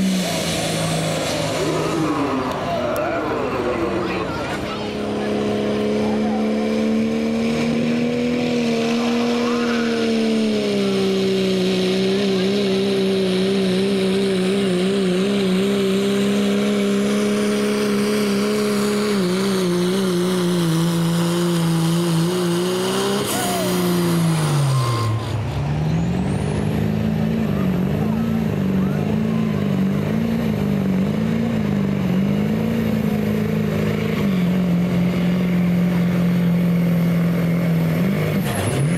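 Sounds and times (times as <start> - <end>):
diesel truck engine running flat out: 0.0 - 38.9.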